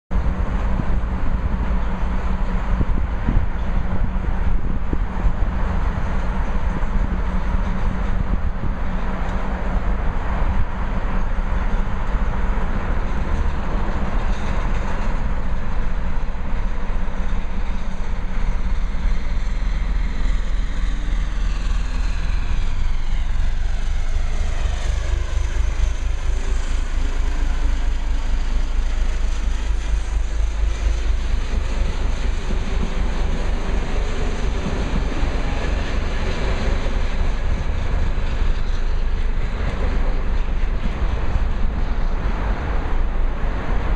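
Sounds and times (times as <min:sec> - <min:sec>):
diesel locomotive engine under load: 0:00.1 - 0:43.9
train coaches rolling: 0:00.1 - 0:43.9.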